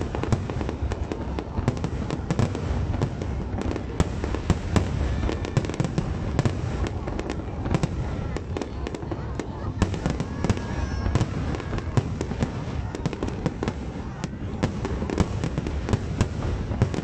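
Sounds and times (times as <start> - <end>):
fireworks cracks and bangs: 0.0 - 17.0.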